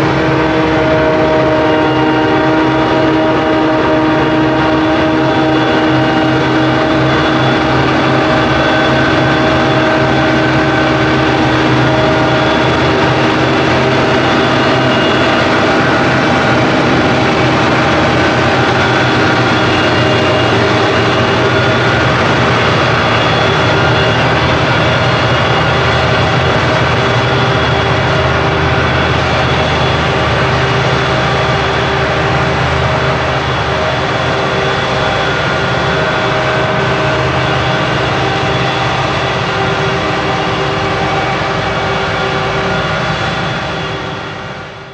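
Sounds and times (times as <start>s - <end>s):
farm machinery engine drone: 0.0s - 44.9s
machinery whining tones: 0.0s - 44.9s.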